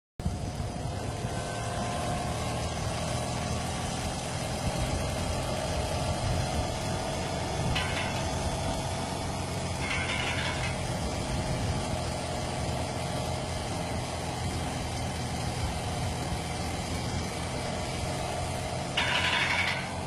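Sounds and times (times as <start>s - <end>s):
motorcycle engine idling: 0.2s - 20.0s
fast even engine knocking: 2.2s - 20.0s.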